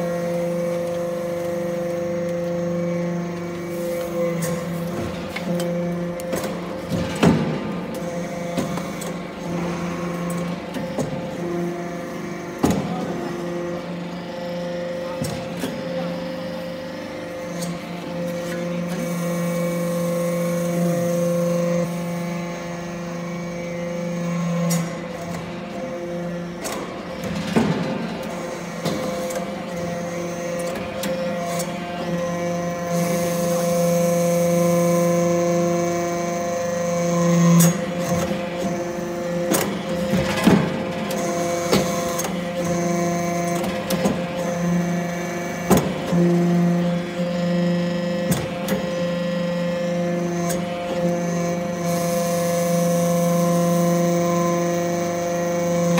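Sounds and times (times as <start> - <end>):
hydraulic press hum: 0.0 - 55.9.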